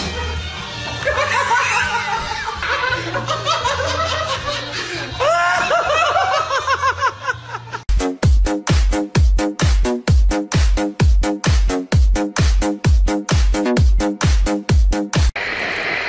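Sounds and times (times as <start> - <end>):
background music: 0.0 - 15.4.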